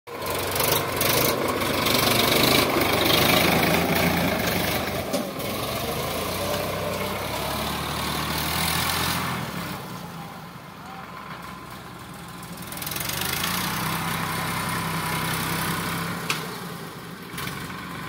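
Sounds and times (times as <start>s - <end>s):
tractor diesel engine running: 0.1s - 18.0s.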